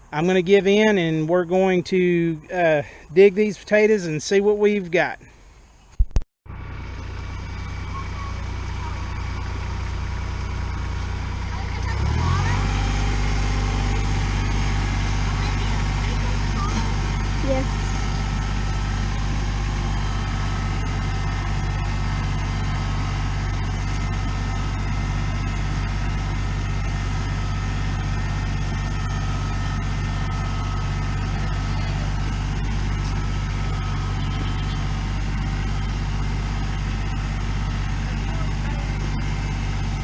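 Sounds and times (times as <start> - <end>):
engine running steadily: 6.5 - 40.0.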